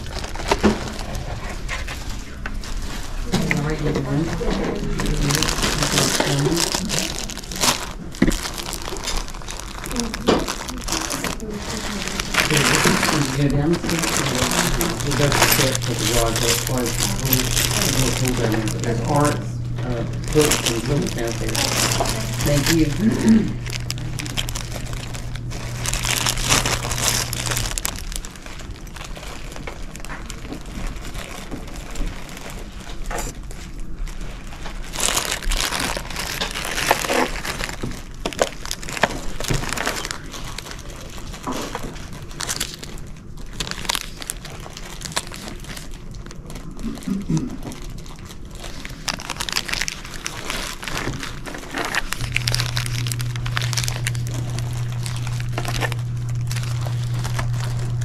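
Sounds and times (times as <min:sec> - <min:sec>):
low hum: 0:00.0 - 0:58.0
plastic bags crinkling: 0:00.0 - 0:58.0.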